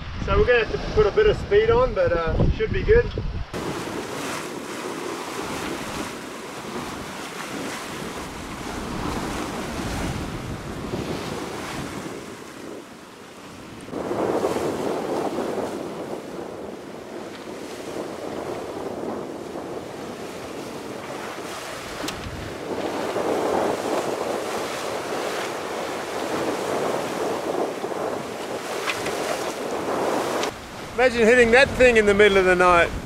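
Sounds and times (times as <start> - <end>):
wind buffeting microphone: 0.0 - 33.0
waves: 3.5 - 33.0.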